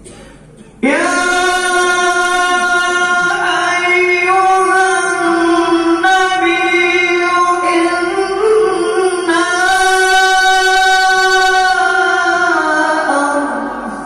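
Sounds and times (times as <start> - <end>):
man chanting into a microphone: 0.8 - 14.0.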